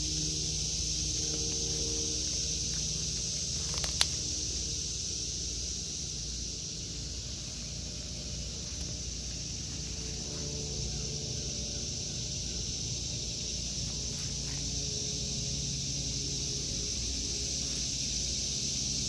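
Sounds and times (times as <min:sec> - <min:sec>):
cicada chorus drone: 0:00.0 - 0:19.0.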